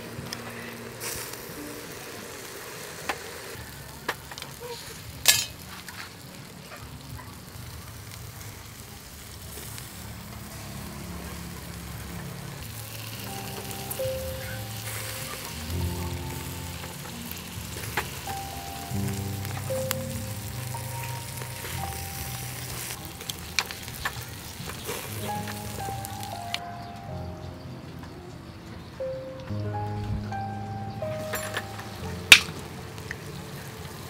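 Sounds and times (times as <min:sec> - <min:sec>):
clams sizzling on grill: 0:00.0 - 0:27.0, 0:30.5 - 0:34.0.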